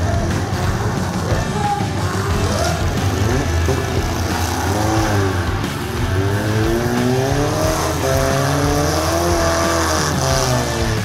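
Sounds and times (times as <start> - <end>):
car engines revving: 0.0 - 11.0
steady low drone: 0.0 - 11.0.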